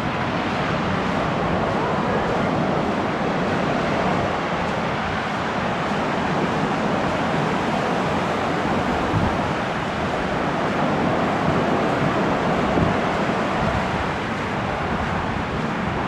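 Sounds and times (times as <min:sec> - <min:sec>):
ocean waves surf: 0:00.0 - 0:16.0
wind: 0:00.0 - 0:16.0.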